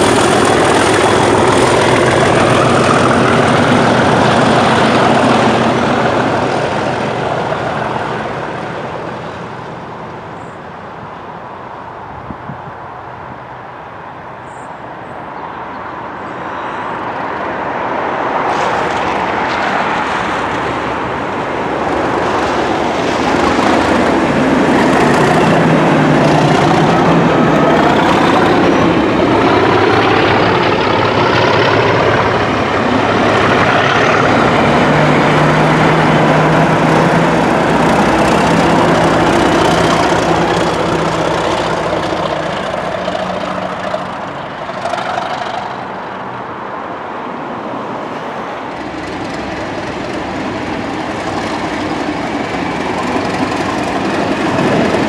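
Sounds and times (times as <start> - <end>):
train passing close by: 0.0 - 55.0.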